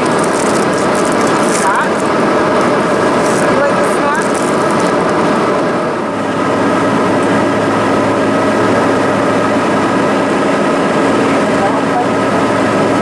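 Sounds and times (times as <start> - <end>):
air rushing along fuselage: 0.0 - 13.0
jet engines droning: 0.0 - 13.0
steady low hum: 0.0 - 13.0.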